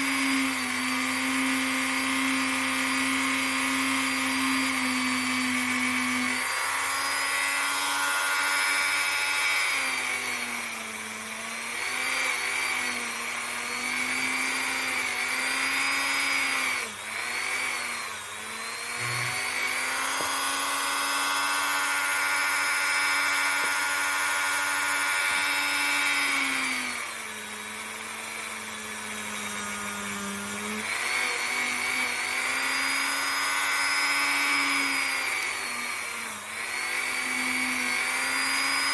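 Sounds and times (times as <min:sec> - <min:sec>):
rotary tool whining on metal: 0:00.0 - 0:38.9.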